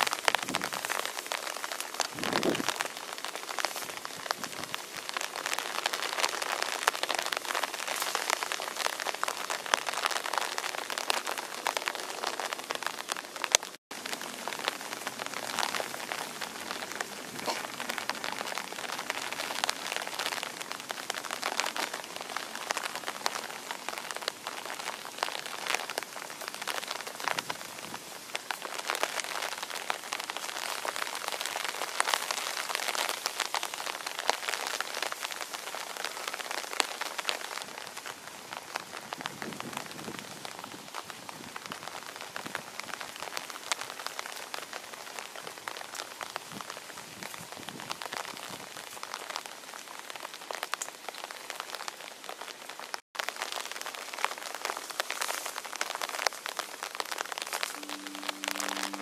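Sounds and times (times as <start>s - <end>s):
rain on foliage: 0.0s - 59.0s.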